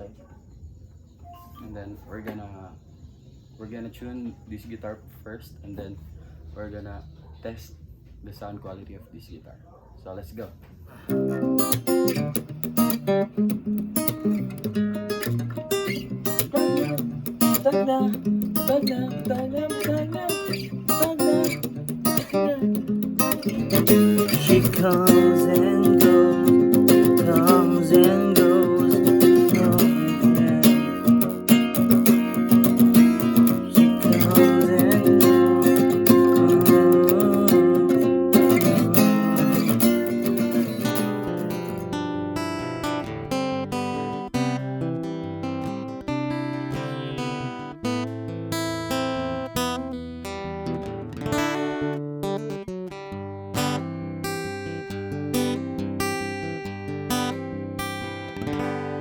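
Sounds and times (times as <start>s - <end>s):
acoustic guitar strummed in chords: 11.0s - 59.0s.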